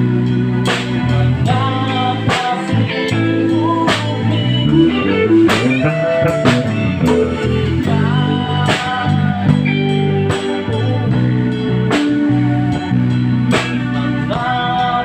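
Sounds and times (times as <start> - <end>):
band playing instrumental: 0.0 - 15.0
drum kit striking: 0.2 - 14.9.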